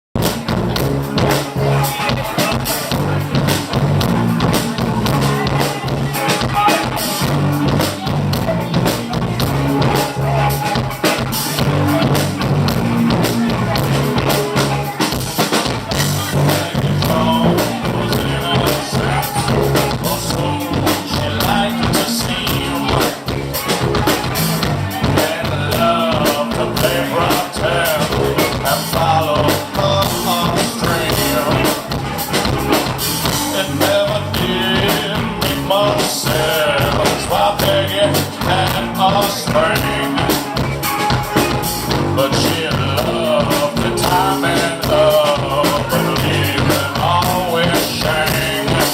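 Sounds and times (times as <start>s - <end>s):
drum kit steady beat: 0.2s - 48.9s
live rock band playing: 0.2s - 48.9s.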